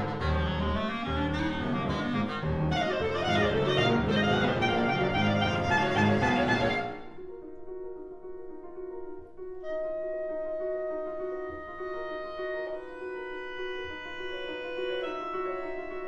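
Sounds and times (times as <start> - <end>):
clarinet: 0.0 - 7.4, 9.6 - 16.0
piano: 0.0 - 16.0.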